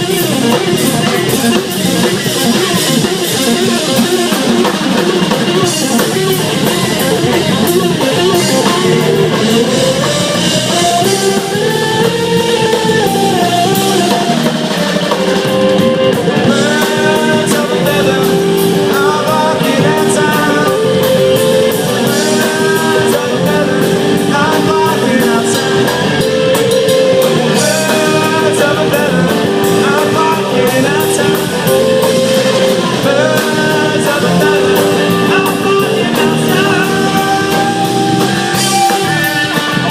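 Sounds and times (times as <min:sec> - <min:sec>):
drum kit: 0:00.0 - 0:39.9
electric guitar lead lines: 0:00.0 - 0:39.9
live rock band jamming: 0:00.0 - 0:39.9.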